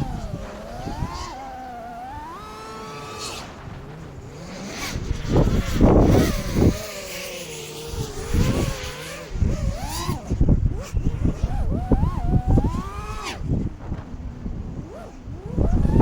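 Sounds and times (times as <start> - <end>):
drone motors whining: 0.0 - 16.0
wind gusts on microphone: 0.0 - 16.0.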